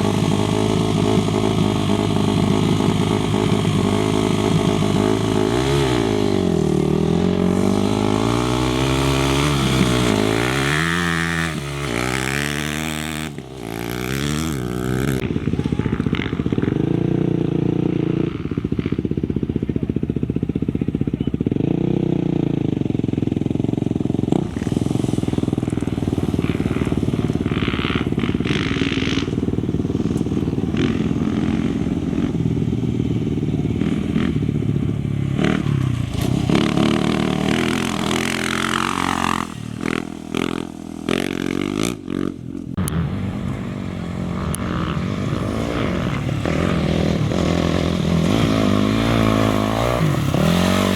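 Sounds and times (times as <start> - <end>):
motorcycle and quad engines revving: 0.0 - 50.9.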